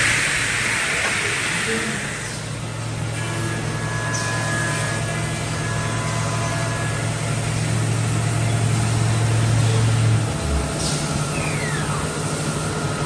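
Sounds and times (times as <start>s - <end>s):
woodworking machine humming: 0.0s - 10.7s.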